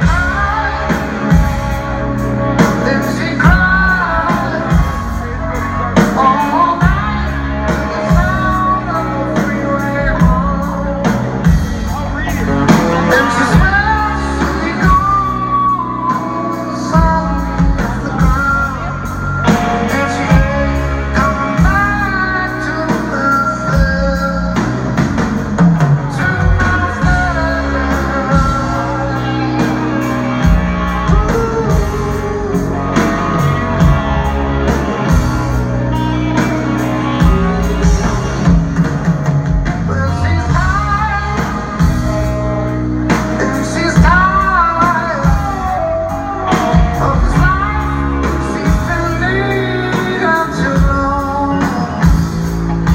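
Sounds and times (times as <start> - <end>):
bass guitar: 0.0 - 52.9
drums: 0.0 - 52.9
electric guitar: 0.0 - 52.9
person singing lead vocal: 0.0 - 52.9.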